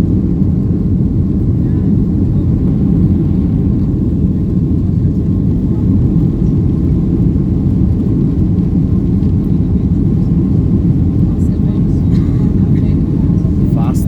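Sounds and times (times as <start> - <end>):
jet engines low rumble: 0.0 - 14.0.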